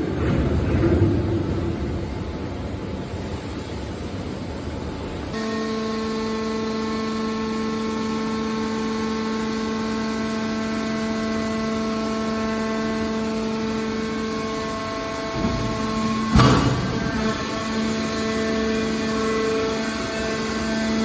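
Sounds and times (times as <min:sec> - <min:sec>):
hydraulic unit hum: 0:00.0 - 0:21.0.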